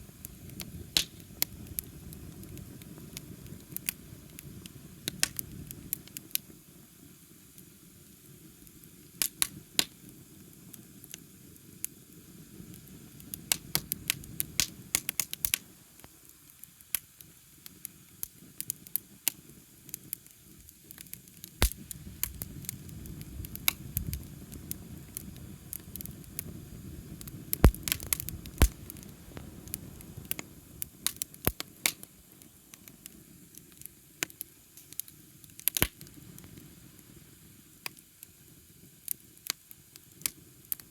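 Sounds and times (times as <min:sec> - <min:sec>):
low rushing of flames: 0:00.0 - 0:16.9, 0:19.8 - 0:40.9
campfire crackling and popping: 0:00.0 - 0:40.9.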